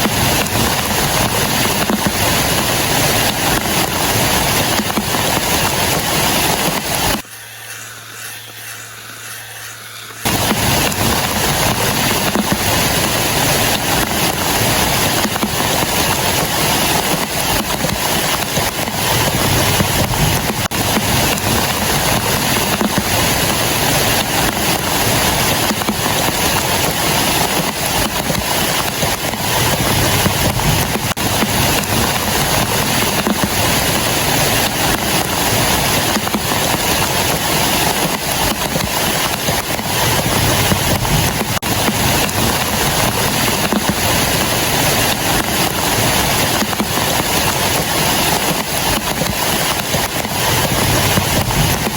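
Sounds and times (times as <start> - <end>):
heavy rain on plastic sheet: 0.0 - 7.3, 10.2 - 51.9.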